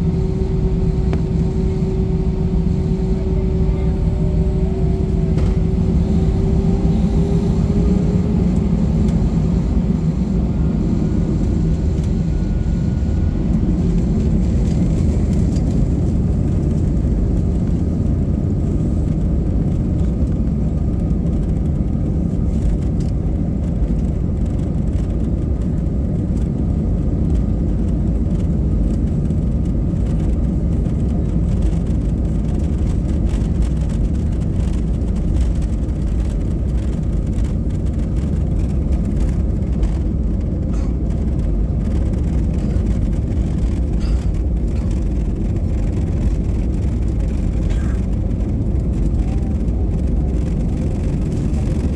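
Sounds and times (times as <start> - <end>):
jet engines rumbling: 0.0 - 51.9
wheels rolling on runway: 2.0 - 51.9.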